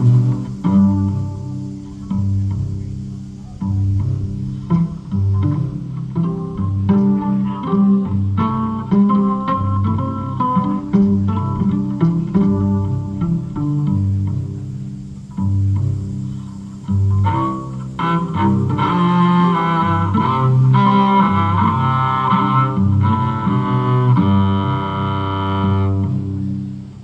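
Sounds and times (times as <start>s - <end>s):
cello bowed notes: 0.0s - 27.0s
plucked string notes: 0.0s - 27.0s.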